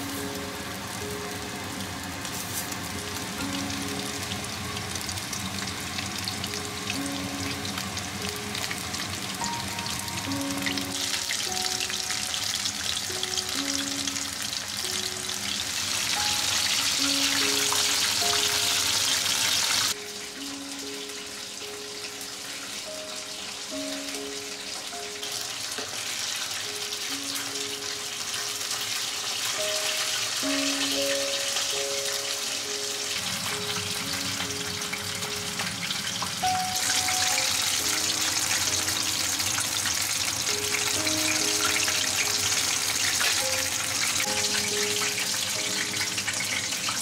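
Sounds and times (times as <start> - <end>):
chicken deep-frying in oil: 0.0 - 47.0
soft background music: 0.0 - 47.0.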